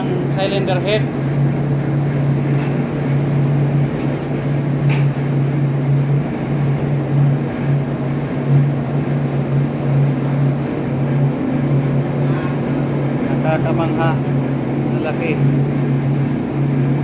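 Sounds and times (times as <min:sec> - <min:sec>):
engine room machinery drone: 0:00.0 - 0:17.0.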